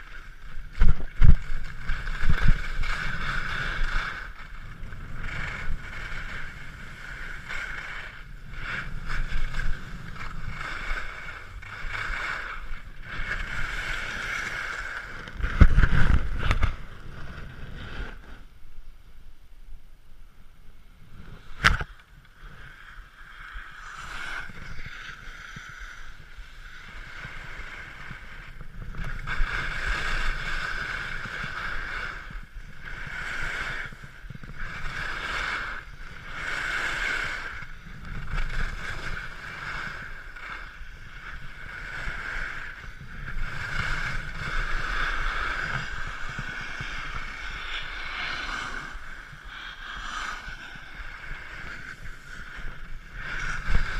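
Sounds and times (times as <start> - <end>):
skis scraping on snow: 0.0 - 18.6, 21.0 - 53.9
wind on microphone: 0.0 - 18.6, 20.5 - 53.9.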